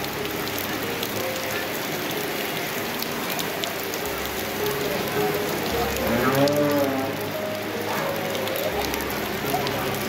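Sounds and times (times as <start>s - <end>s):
river water rushing and splashing: 0.0s - 10.0s
faint voices murmuring: 0.7s - 10.0s.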